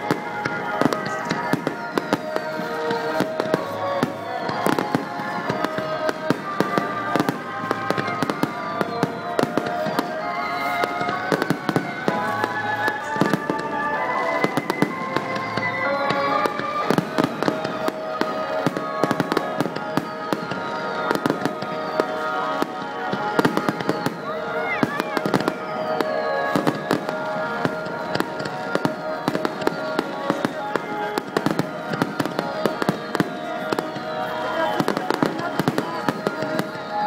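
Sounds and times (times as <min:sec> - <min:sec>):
fireworks bangs and crackles: 0:00.0 - 0:37.0
fireworks falling whistles: 0:00.0 - 0:37.0
music playing: 0:00.0 - 0:37.0.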